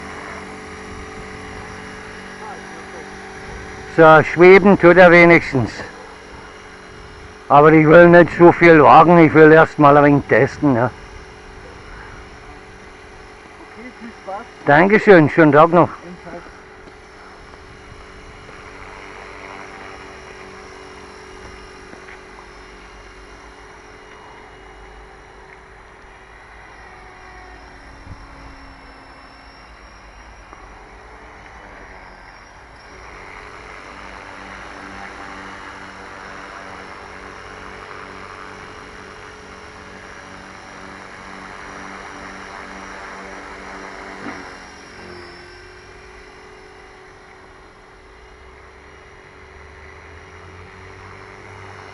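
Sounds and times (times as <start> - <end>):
drone motors humming: 0.0 - 51.9.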